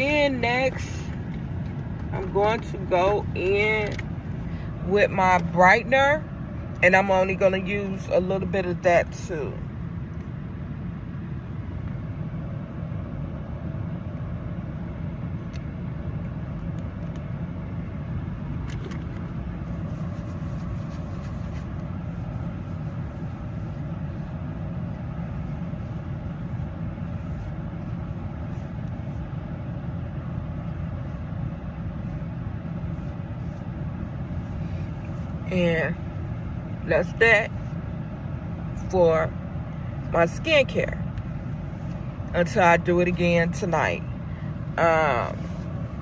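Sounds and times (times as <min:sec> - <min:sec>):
low vehicle rumble: 0:00.0 - 0:46.0.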